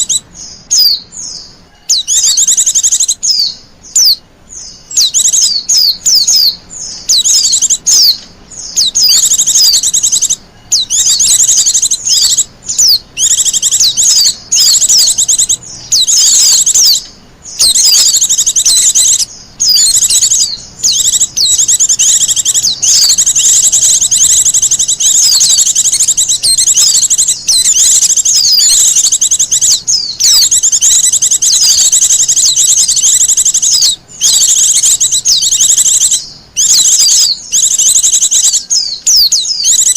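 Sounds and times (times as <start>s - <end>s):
white-eyes twittering song: 0.0s - 39.9s.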